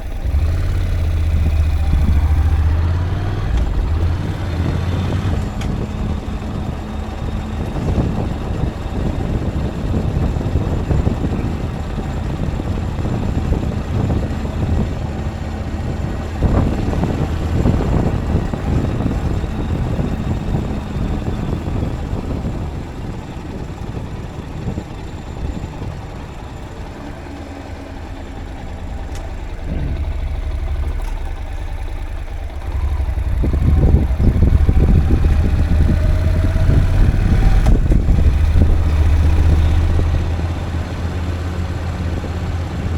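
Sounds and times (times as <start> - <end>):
road noise: 0.0 - 42.9
vehicle engine rumble: 0.0 - 42.9.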